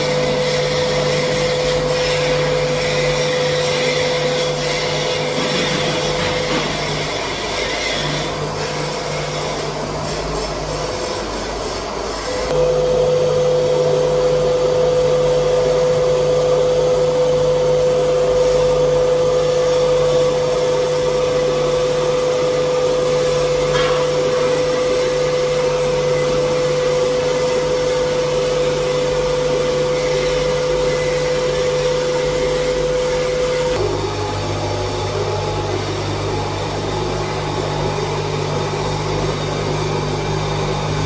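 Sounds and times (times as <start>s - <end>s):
oscillating knife cutting machine: 0.0s - 41.0s.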